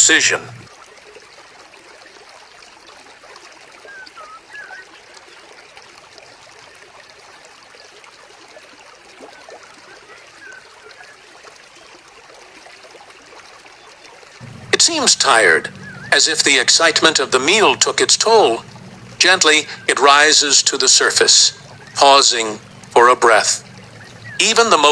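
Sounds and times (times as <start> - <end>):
water trickling: 0.0 - 24.9.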